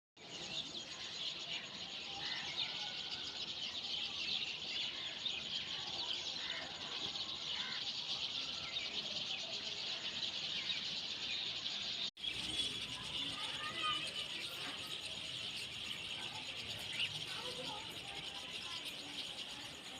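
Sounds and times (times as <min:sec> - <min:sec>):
flock of small birds chirping: 0:00.2 - 0:19.9.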